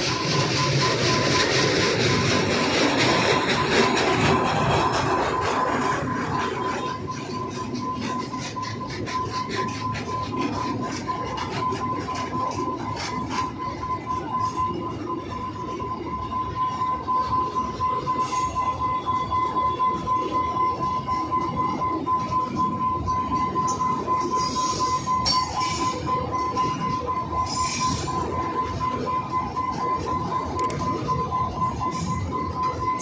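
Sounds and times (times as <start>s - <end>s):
steady high whine: 0.0s - 33.0s
train wheels clattering: 0.0s - 33.0s.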